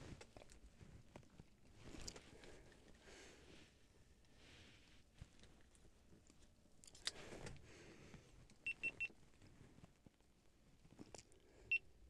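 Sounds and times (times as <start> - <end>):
faint clicks and handling noise: 0.0 - 3.1, 4.2 - 11.6.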